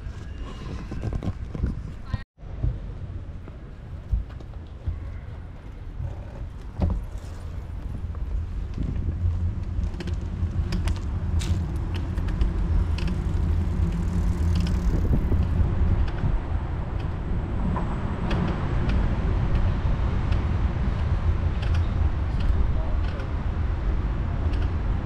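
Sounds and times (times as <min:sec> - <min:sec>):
wind rumble on microphone: 0:00.0 - 0:25.0
road traffic: 0:02.4 - 0:25.0.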